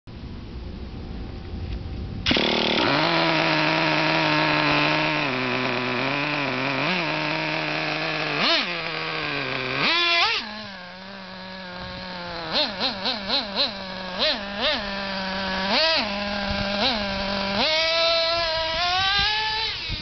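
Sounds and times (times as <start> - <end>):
small nitro engine idling: 2.2 - 20.0
engine revving: 2.3 - 20.0.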